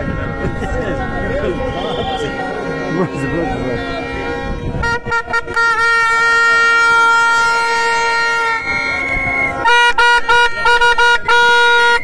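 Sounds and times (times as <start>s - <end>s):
crowd voices: 0.0s - 12.0s
plastic horn blowing: 0.0s - 12.0s.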